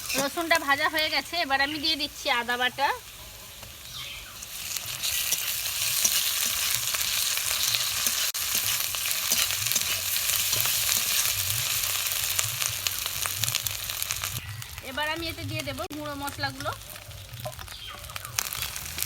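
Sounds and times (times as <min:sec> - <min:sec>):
paste sizzling in hot oil: 0:00.0 - 0:19.0
spattering oil crackles: 0:00.0 - 0:19.0.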